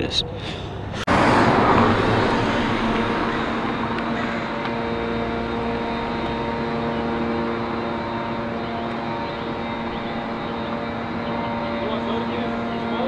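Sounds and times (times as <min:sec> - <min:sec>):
vehicle engine idling: 0:00.6 - 0:13.0.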